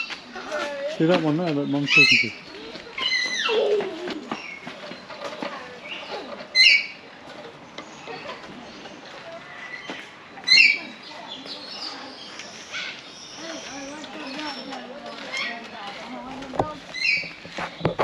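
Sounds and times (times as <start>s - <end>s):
faint background voices: 0.0s - 18.0s.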